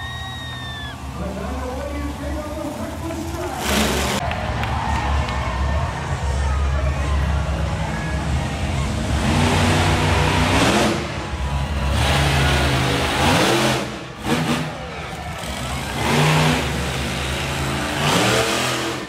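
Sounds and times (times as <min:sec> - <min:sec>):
monster truck engine revving: 0:00.0 - 0:04.4, 0:05.7 - 0:19.0.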